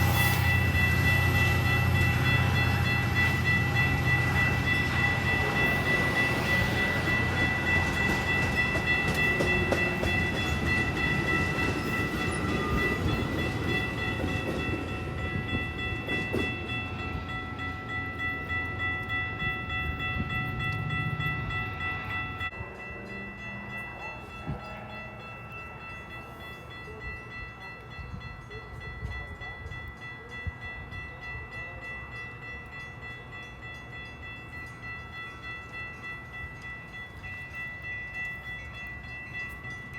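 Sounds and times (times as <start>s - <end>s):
train rumble and wheel noise: 0.0s - 39.9s.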